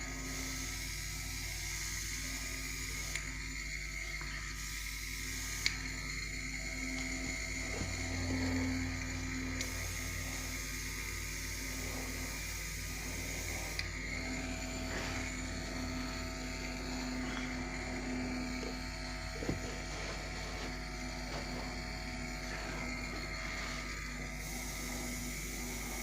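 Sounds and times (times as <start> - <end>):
airbrush compressor humming: 0.0 - 26.0
airbrush spraying: 0.0 - 26.0.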